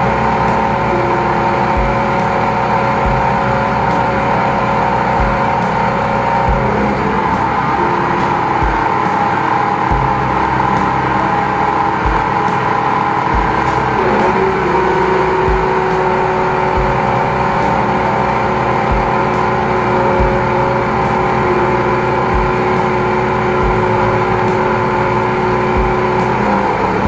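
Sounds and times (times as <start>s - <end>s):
engine-driven pump humming: 0.0s - 27.0s
low thumps: 0.0s - 27.0s
steady tone: 0.0s - 27.0s.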